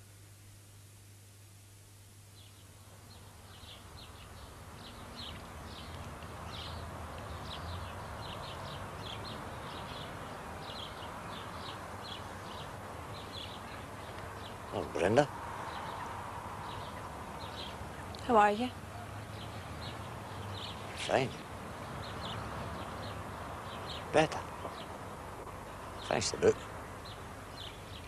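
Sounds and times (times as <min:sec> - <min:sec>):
outdoor background noise: 0:00.0 - 0:28.0
birds chirping: 0:02.3 - 0:28.0.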